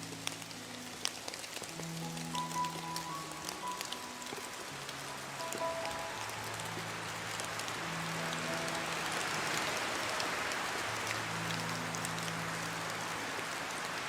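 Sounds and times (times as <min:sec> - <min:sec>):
rain hissing: 0:00.0 - 0:14.0
raindrop ticks: 0:00.0 - 0:14.0
soft low background music: 0:00.0 - 0:14.0.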